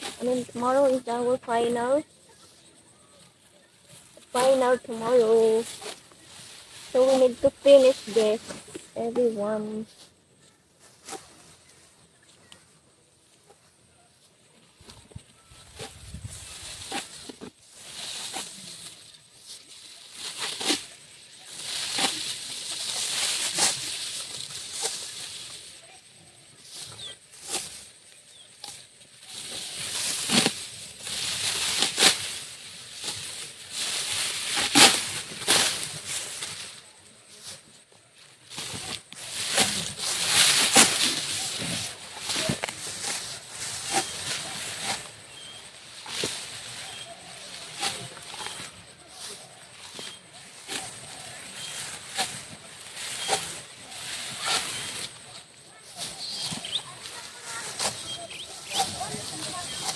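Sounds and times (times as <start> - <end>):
rustling of dry rice stalks: 0.0 - 59.9.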